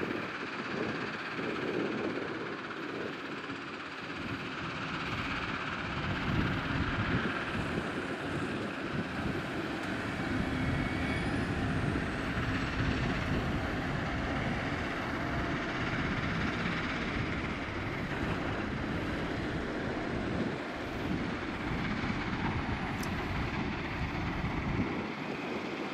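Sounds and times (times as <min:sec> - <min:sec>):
wheel loader diesel engine running: 0:00.0 - 0:25.9.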